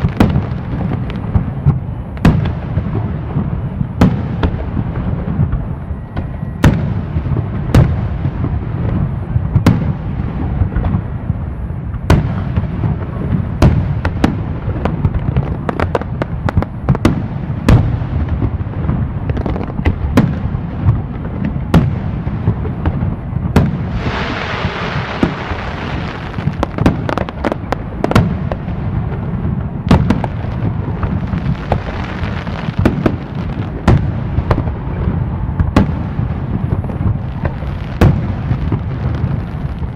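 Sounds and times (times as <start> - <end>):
fireworks crackling: 0.0 - 39.9
fireworks rumble and bangs: 0.0 - 39.9.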